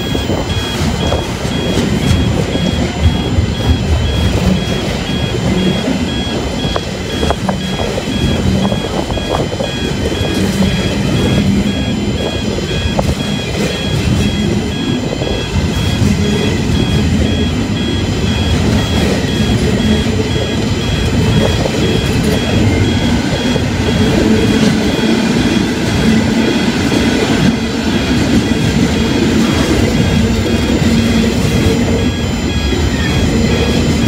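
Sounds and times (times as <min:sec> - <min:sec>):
level crossing bell ringing: 0:00.0 - 0:34.0
train wheels clacking over rails: 0:00.0 - 0:34.0.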